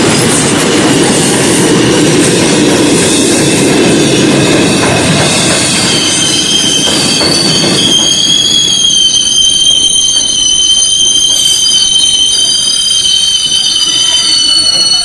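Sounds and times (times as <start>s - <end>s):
train low rumble: 0.0s - 15.0s
train wheels squealing on rails: 0.0s - 15.0s.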